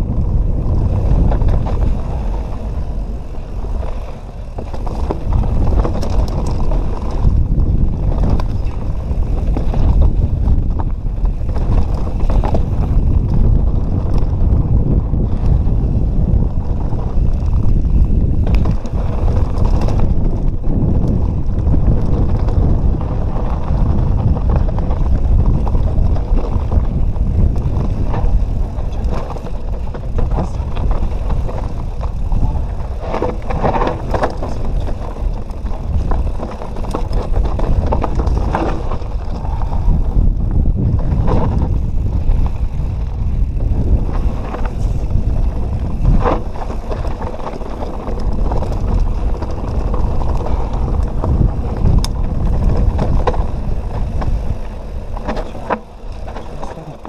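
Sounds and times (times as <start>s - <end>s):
bike knocks and rattles: 0.0s - 57.0s
bike tyres rumbling over rock: 0.0s - 57.0s
wind buffeting microphone: 0.0s - 57.0s.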